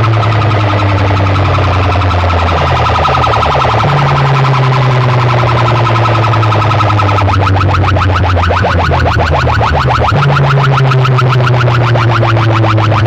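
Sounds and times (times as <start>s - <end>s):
deep bass tone: 0.0s - 13.0s
pulsing electronic siren: 0.0s - 13.0s
rising electronic chirps: 0.0s - 13.0s.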